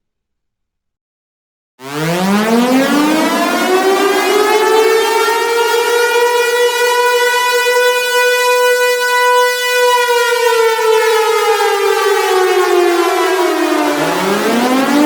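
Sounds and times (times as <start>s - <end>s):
siren wailing and winding down: 1.8s - 15.0s.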